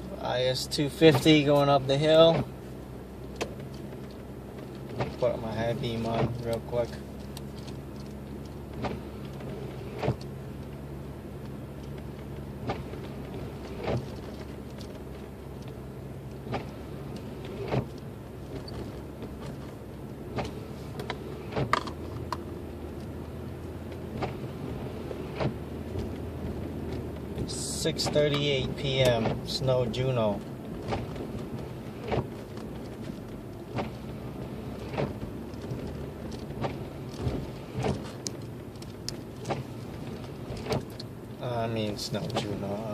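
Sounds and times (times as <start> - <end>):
car engine humming: 0.0 - 42.9
tyre and road noise: 0.0 - 42.9.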